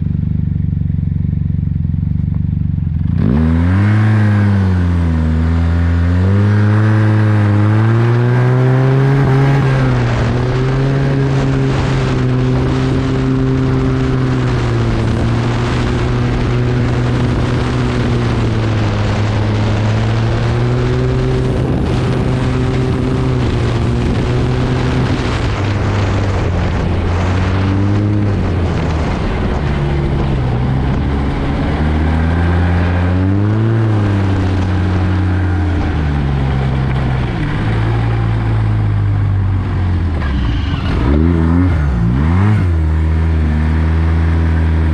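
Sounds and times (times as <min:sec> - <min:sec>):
snowmobile engine running: 0:00.0 - 0:44.9
wind noise: 0:03.1 - 0:44.9.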